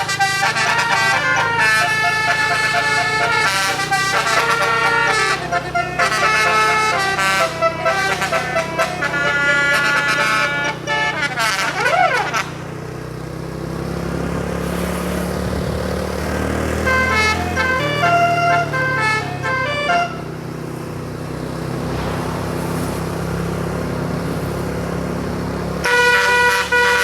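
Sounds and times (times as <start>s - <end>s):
multi-tone air horn tune: 0.0s - 13.1s, 16.4s - 27.0s
bus engine running: 0.0s - 27.0s.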